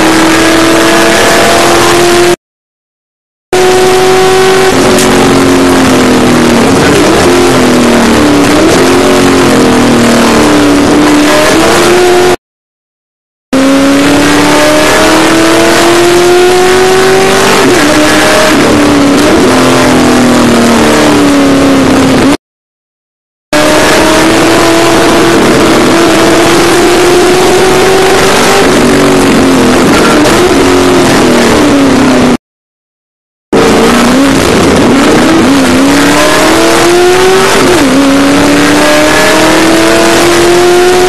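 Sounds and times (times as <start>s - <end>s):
race car engine: 0.0s - 2.4s, 3.6s - 12.4s, 13.6s - 22.4s, 23.6s - 32.4s, 33.6s - 41.0s.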